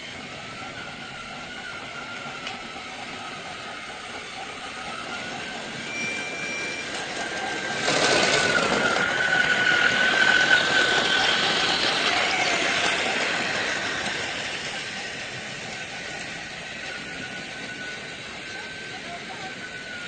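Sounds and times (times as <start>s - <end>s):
gears and wheels rattling: 0.0s - 20.0s
toy train motor whine: 0.0s - 20.0s.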